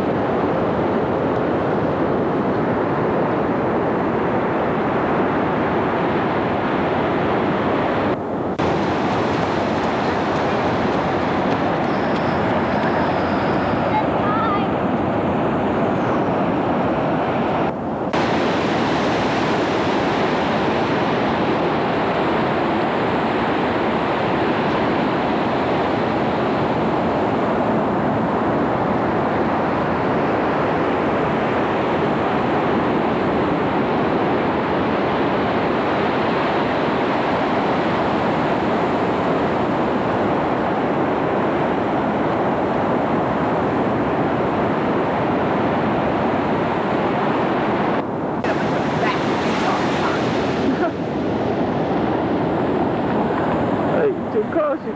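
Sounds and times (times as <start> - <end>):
ocean surf breaking: 0.0 - 54.9
wind on microphone: 0.0 - 54.9.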